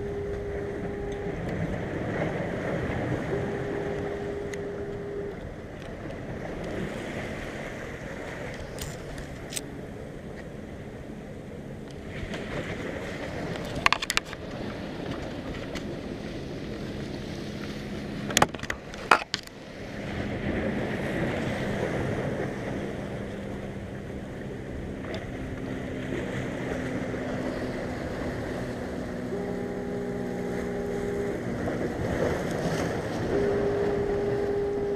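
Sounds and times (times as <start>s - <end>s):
surf on the shore: 0.0s - 34.9s
wind: 0.0s - 34.9s.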